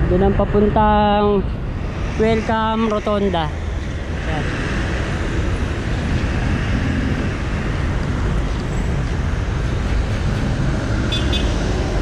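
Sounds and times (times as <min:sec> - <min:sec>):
road traffic engines and tyres: 0:00.0 - 0:12.0.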